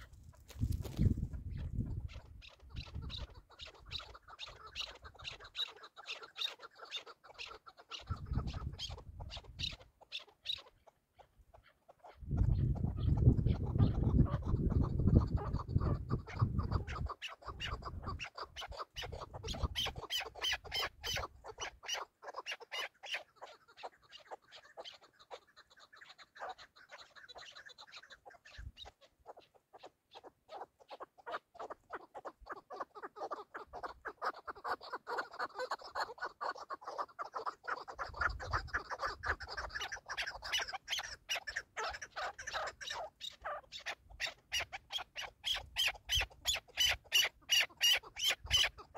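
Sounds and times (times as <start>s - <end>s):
partridge chuck calls: 0.0s - 48.9s.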